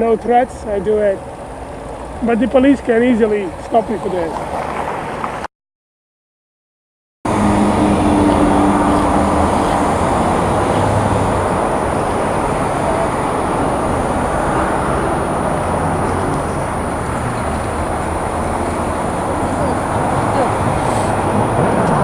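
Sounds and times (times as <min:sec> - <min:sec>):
wind and road noise: 0:00.0 - 0:05.5, 0:07.3 - 0:22.0.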